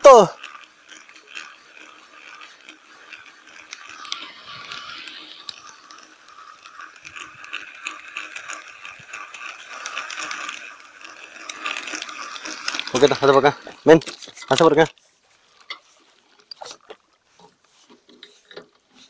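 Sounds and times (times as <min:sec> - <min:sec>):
fishing reel clicking: 0:00.0 - 0:19.0.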